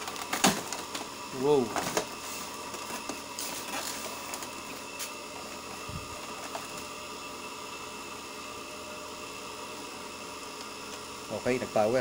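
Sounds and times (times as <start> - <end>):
printer mechanism running: 0.0 - 12.0.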